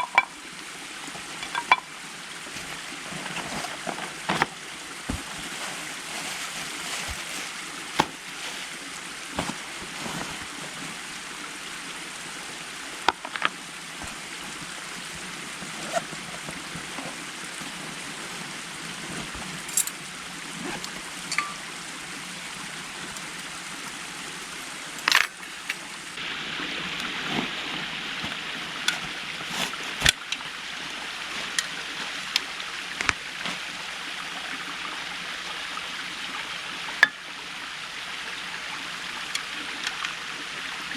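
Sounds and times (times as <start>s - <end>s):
creek water running: 0.0s - 40.9s.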